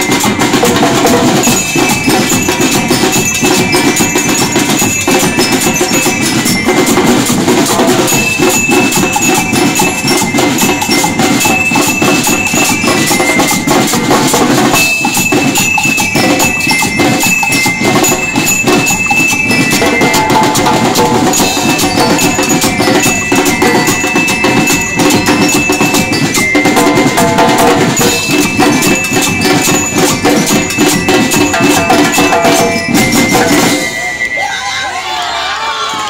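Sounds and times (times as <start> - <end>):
snare and bass drums: 0.0 - 34.0
bell lyres melody: 0.0 - 35.5.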